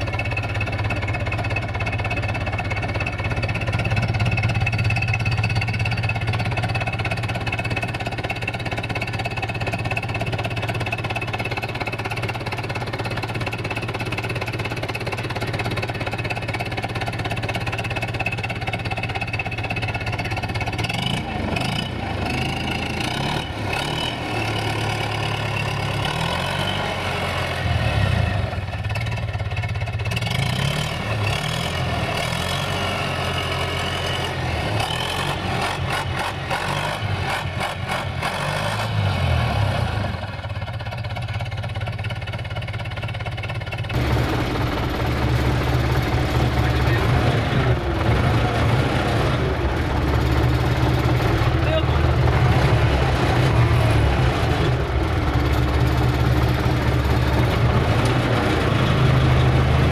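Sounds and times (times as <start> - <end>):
tractor diesel engine idling: 0.0 - 38.2, 39.4 - 59.9.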